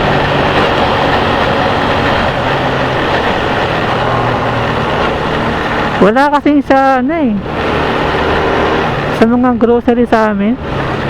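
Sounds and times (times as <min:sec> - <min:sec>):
low engine hum: 0:00.0 - 0:11.0
rushing rain and wind noise: 0:00.0 - 0:11.0.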